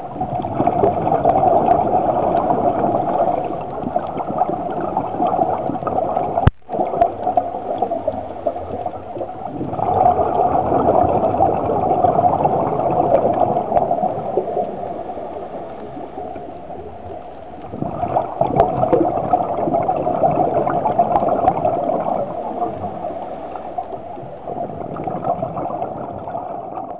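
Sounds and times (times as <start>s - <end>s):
regulator exhaust bubbles underwater: 0.0s - 26.9s.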